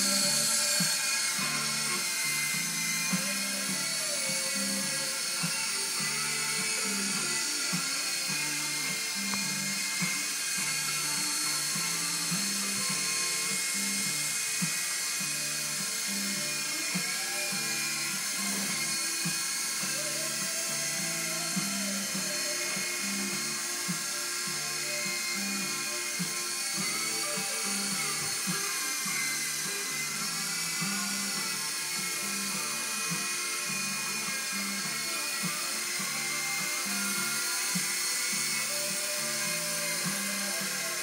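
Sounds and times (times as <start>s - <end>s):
background music with a beat: 0.0s - 41.0s
toy helicopter motor whine: 0.0s - 41.0s.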